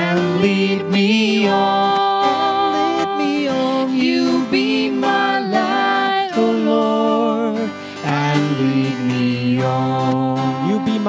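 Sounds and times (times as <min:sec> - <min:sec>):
instrumental accompaniment: 0:00.0 - 0:11.0
person singing a hymn: 0:00.0 - 0:11.0.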